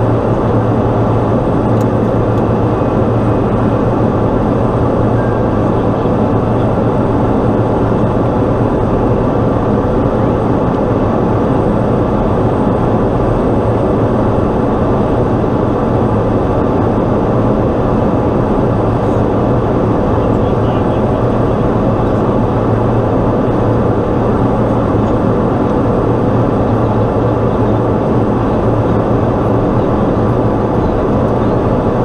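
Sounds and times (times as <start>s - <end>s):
turboprop engine drone in cockpit: 0.0s - 32.0s.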